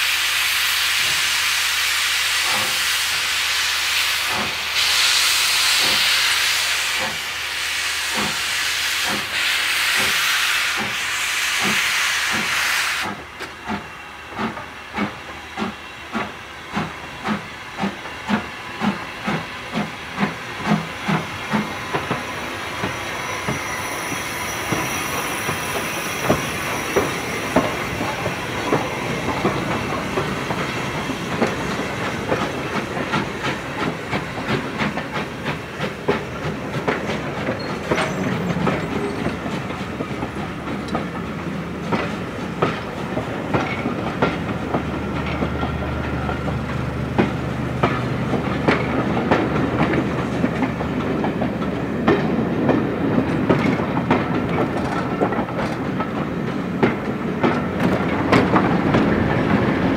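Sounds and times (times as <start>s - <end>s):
train rolling rumble: 0.0s - 59.9s
train wheels clickety-clack: 0.0s - 59.9s.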